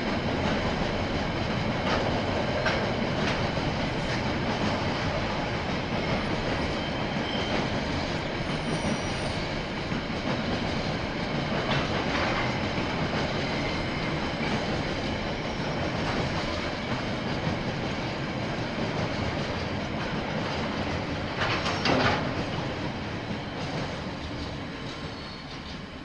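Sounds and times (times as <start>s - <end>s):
train wheels clattering on rails: 0.0s - 26.0s.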